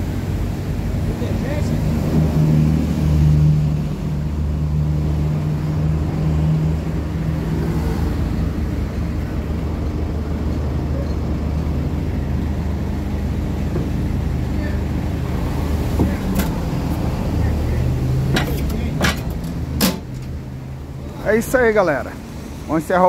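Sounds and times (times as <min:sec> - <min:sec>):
tow truck engine humming: 0:00.0 - 0:23.0.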